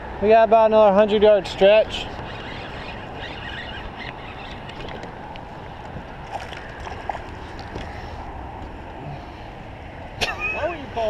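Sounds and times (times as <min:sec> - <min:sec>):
boat on open water rushing: 0:00.0 - 0:11.0.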